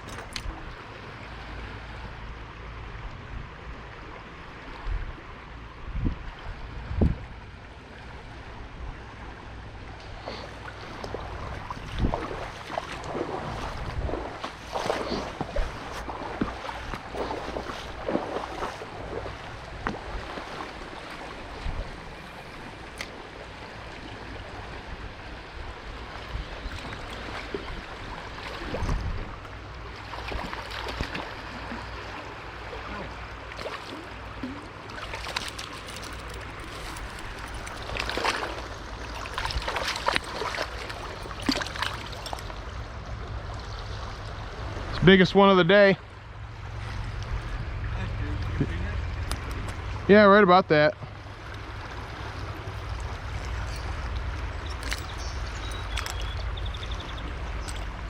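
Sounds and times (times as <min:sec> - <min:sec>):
stream water rushing: 0:00.0 - 0:58.0
water splashes: 0:00.0 - 0:58.0.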